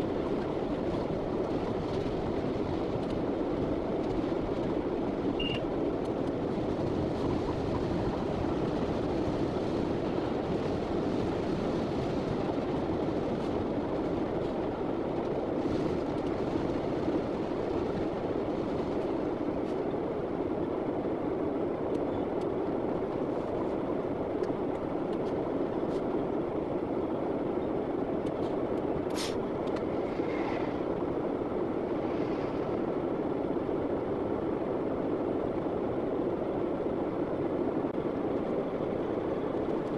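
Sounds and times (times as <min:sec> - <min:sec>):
diesel locomotive engine and wheels: 0:00.0 - 0:39.9.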